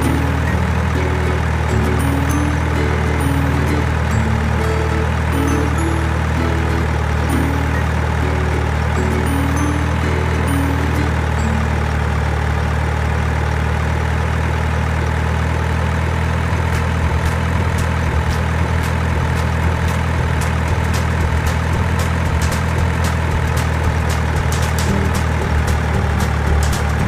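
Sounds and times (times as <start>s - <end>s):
heavy engine idling: 0.0s - 27.0s.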